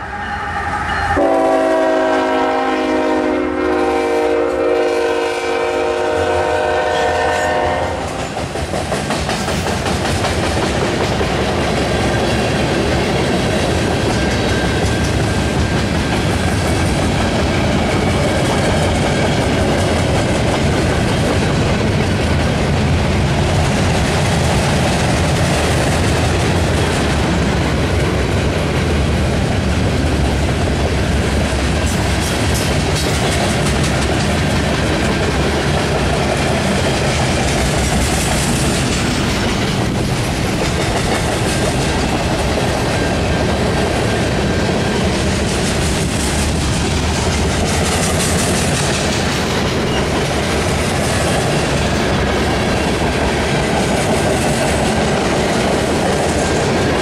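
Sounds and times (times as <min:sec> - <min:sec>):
freight train wheels clattering: 0:03.9 - 0:57.0.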